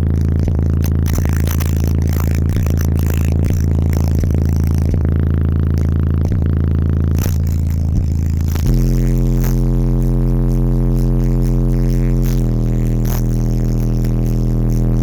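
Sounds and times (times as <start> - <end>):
bass-heavy rap song on car stereo: 0.0 - 15.0.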